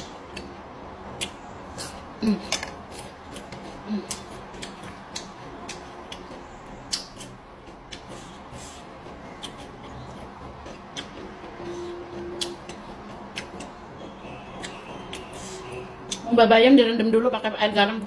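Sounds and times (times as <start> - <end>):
crisp chewing and wet smacks: 0.0 - 11.6, 12.4 - 16.3.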